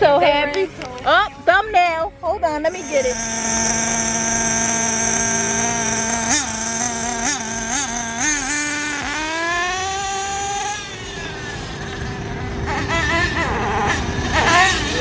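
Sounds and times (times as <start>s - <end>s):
small engine idling and revving: 2.6s - 15.0s.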